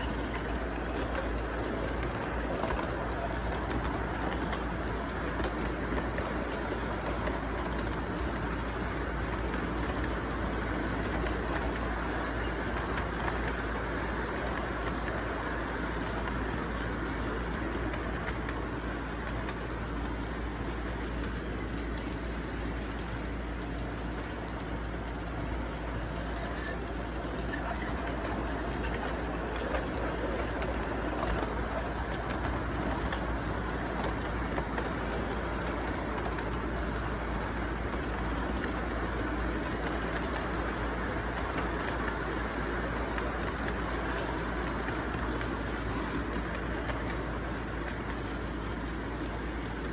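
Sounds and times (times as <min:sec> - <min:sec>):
low hum: 0:00.0 - 0:49.9
model train wheels rumbling: 0:00.0 - 0:49.9.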